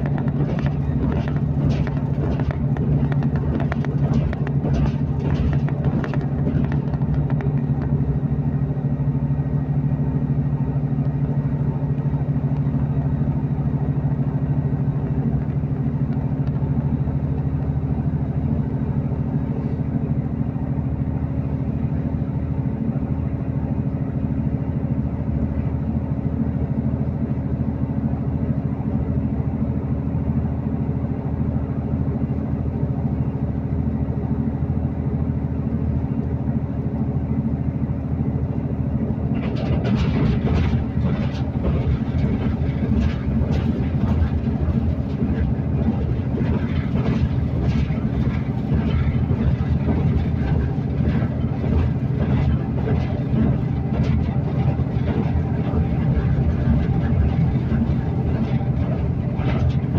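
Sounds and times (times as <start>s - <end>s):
diesel train engine drone: 0.0s - 59.9s
train rumble: 0.0s - 59.9s.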